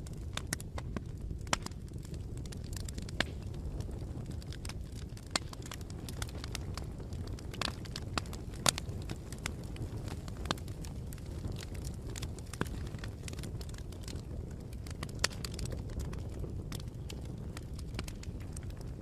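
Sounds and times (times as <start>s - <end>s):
bonfire flames rumbling: 0.0s - 19.0s
fire popping and crackling: 0.0s - 19.0s.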